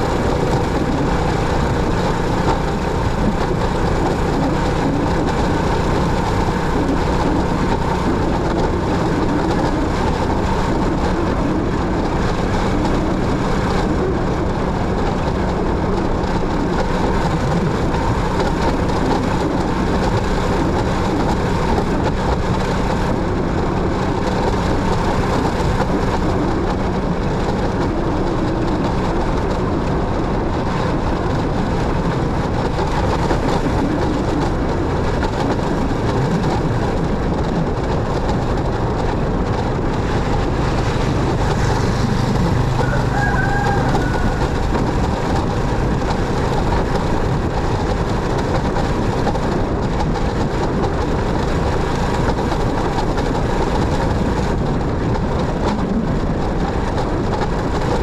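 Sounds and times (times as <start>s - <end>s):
motorcycle engine: 0.0s - 58.0s
road and wind noise: 0.0s - 58.0s.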